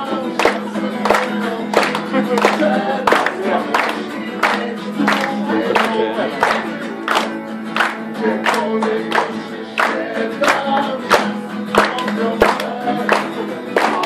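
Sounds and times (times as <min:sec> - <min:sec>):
guitar strumming: 0:00.0 - 0:14.0
person singing: 0:00.0 - 0:14.0.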